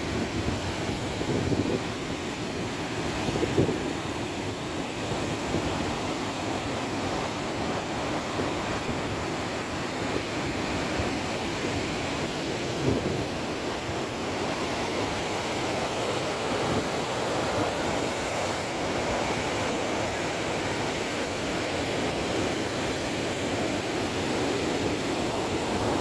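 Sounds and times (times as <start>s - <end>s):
sea surf breaking: 0.0s - 26.0s
wind buffeting microphone: 0.0s - 26.0s.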